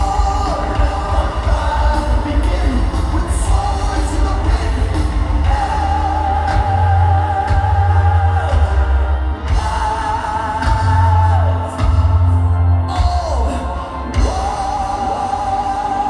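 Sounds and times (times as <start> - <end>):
heavy metal band playing: 0.0 - 16.0.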